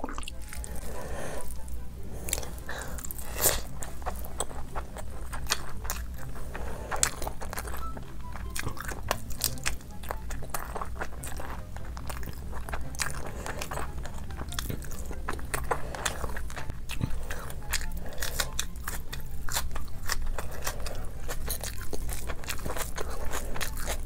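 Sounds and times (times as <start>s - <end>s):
chewing crunchy food: 0.0s - 24.0s.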